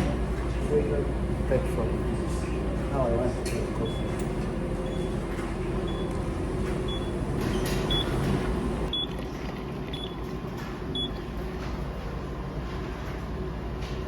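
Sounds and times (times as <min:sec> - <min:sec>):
vending machine hum: 0:00.0 - 0:14.0.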